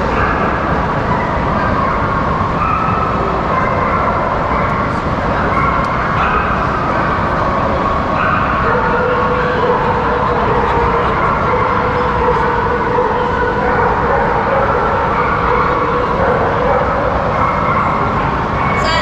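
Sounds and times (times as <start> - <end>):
crowded hall din: 0.0 - 19.0.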